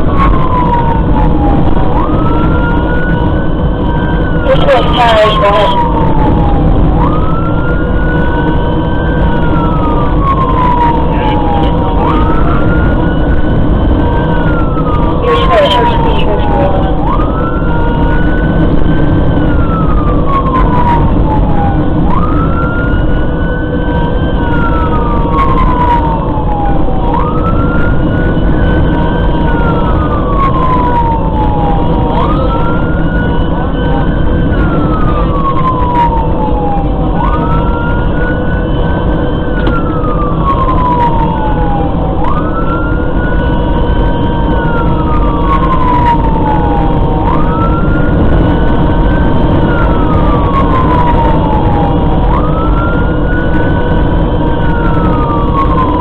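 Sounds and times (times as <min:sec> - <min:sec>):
engine and road noise: 0:00.0 - 0:56.0
fire engine siren wailing: 0:00.0 - 0:56.0.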